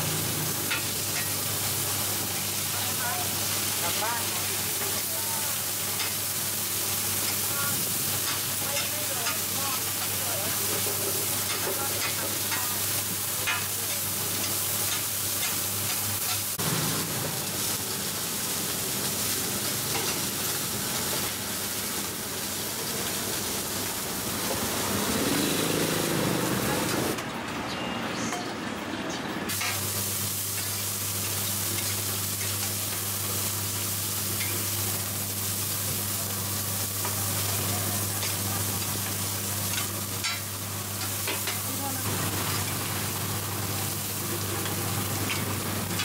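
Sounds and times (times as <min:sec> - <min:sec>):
oil sizzling in a frying pan: 0:00.0 - 0:27.2, 0:29.5 - 0:46.0.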